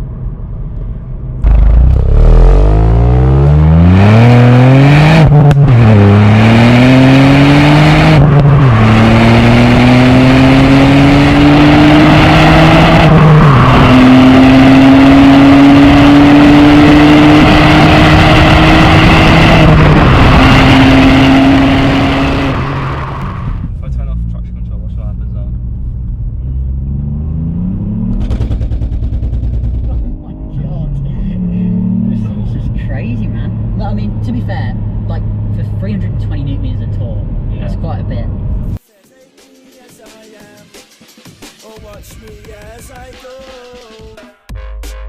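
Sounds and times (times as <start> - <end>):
car engine accelerating: 0.9 - 38.8.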